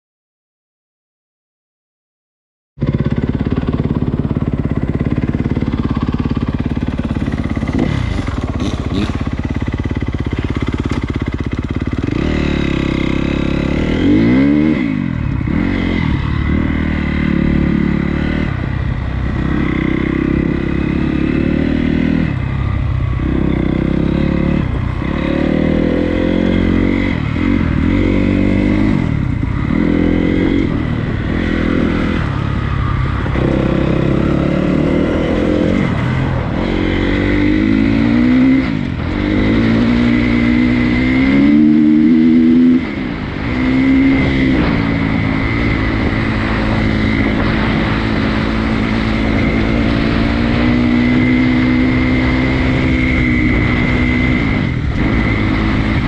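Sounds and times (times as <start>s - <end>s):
dirt bike engine revving: 2.8s - 56.0s.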